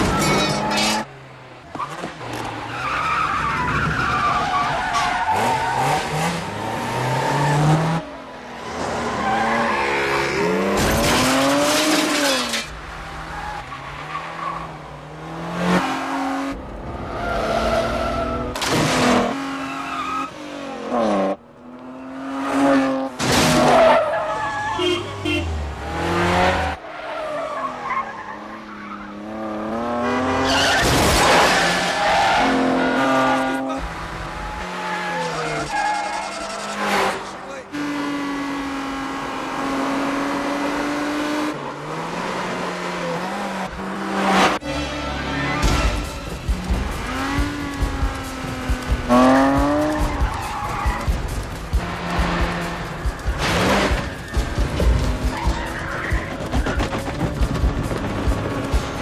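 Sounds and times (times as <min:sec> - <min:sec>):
tyres squealing and skidding: 0:00.0 - 0:01.1, 0:01.7 - 0:21.1, 0:21.9 - 0:38.4, 0:43.0 - 0:57.7
car engines revving: 0:00.0 - 0:59.0.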